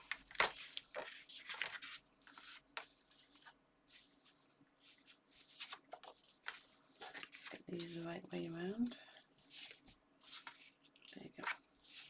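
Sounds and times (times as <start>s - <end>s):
paper and card rustling: 0.0s - 12.0s.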